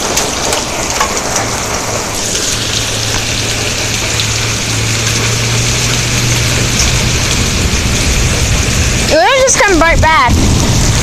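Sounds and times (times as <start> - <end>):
rain pouring: 0.0 - 11.0.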